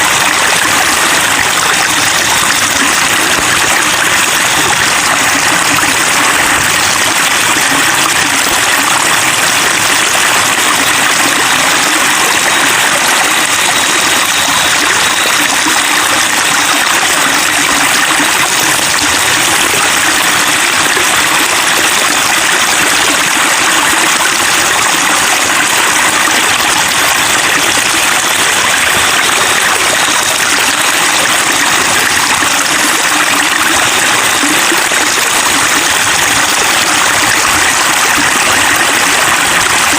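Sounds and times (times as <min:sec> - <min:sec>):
water babbling: 0:00.0 - 0:39.9.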